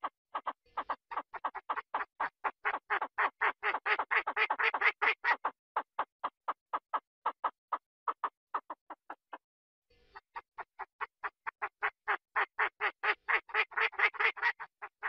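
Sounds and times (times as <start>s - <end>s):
rapid quack-like calls: 0.0s - 9.4s, 10.1s - 15.0s.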